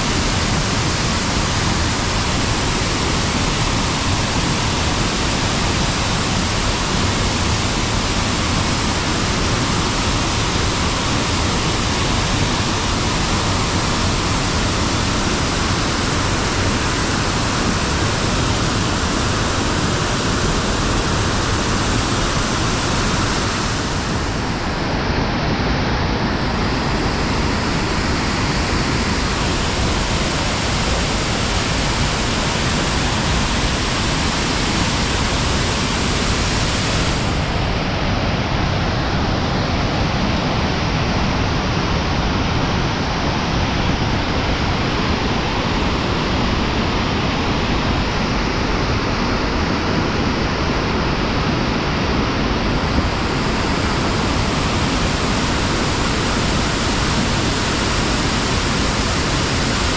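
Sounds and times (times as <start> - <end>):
rushing floodwater: 0.0 - 59.9.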